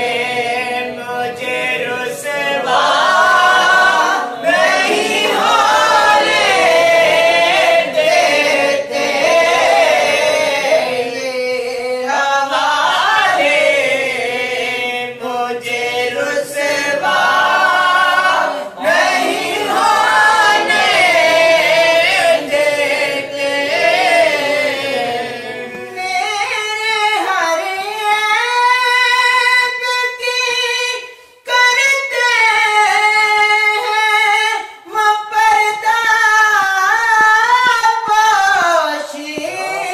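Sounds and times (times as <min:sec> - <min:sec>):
men singing unaccompanied: 0:00.0 - 0:39.9.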